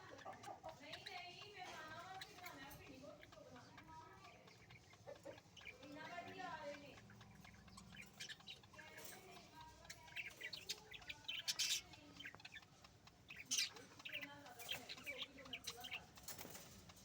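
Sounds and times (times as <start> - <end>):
hatchling birds cheeping: 0.0 - 17.0.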